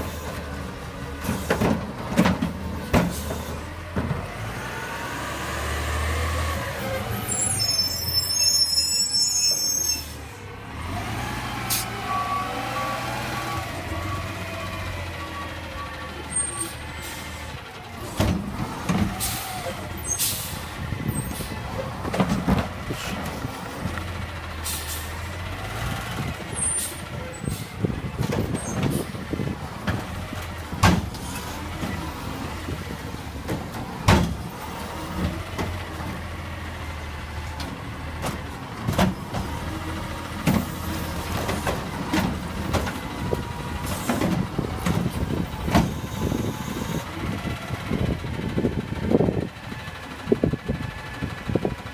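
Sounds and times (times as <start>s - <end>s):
garbage truck diesel engine: 0.0s - 51.9s.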